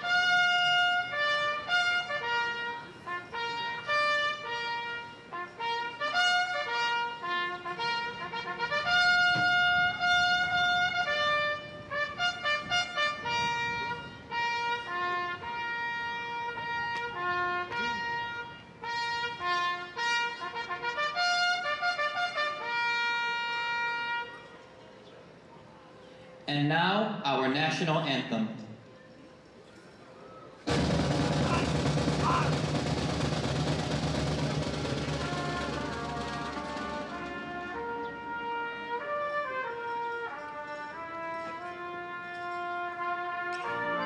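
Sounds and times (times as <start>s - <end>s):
solo trumpet bugle call: 0.0s - 24.6s, 30.7s - 44.0s.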